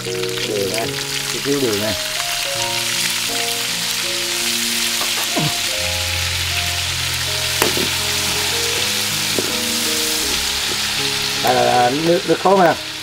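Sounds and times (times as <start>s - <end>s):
background music with held notes: 0.0s - 13.0s
squid sizzling in oil: 0.0s - 13.0s.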